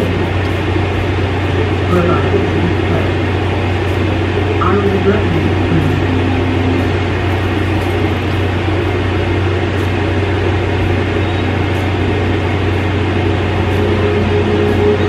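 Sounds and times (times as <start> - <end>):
window air conditioner humming: 0.0 - 15.0.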